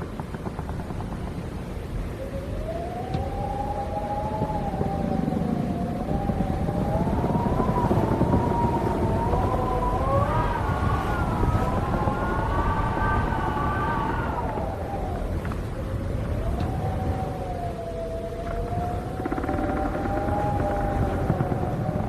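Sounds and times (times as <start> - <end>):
low rush of wind: 0.0 - 22.0
wind howling: 0.0 - 22.0.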